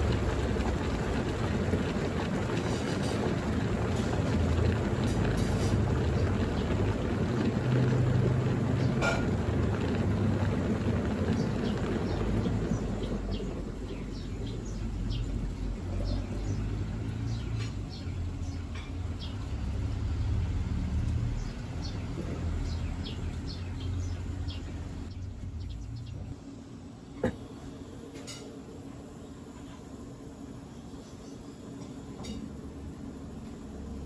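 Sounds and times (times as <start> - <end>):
washing machine tub hum: 0.0 - 34.0.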